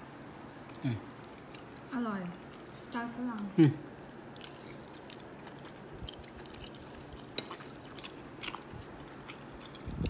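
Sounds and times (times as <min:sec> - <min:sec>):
chewing soft food: 0:00.4 - 0:10.0.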